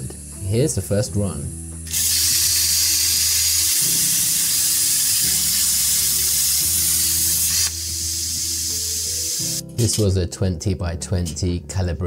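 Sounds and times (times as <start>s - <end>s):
plasma arc hissing: 0.0s - 10.0s.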